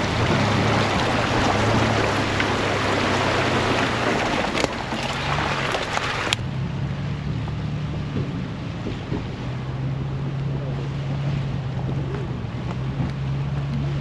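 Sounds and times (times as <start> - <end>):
truck engine running low: 0.0 - 14.0
tyres splashing through water and mud: 0.0 - 14.0.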